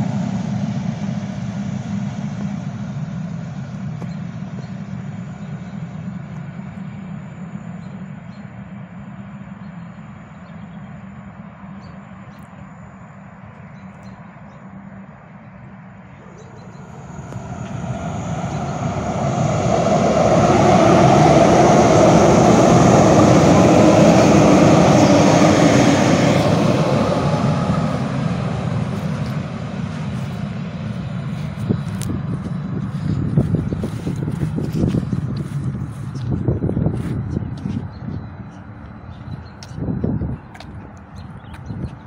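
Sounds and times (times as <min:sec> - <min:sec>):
train passing: 0:00.0 - 0:42.0.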